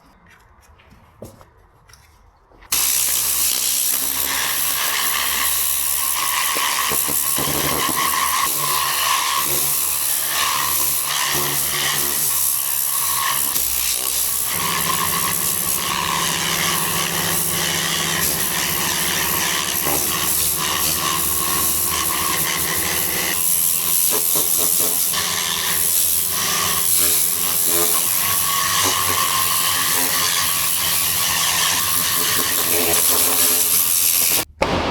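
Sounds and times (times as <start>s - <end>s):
motor hum: 2.8s - 34.5s.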